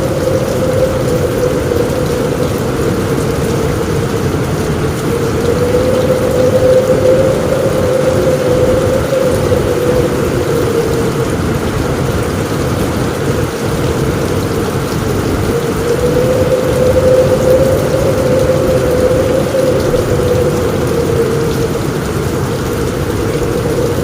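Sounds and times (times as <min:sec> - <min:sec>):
heavy rain on a roof: 0:00.0 - 0:24.0
low rumble: 0:00.0 - 0:24.0.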